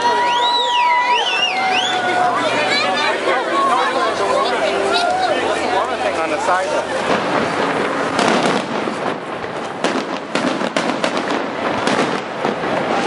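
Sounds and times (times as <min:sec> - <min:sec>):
fireworks bursting: 0:00.0 - 0:13.0
fireworks crackling: 0:00.0 - 0:13.0.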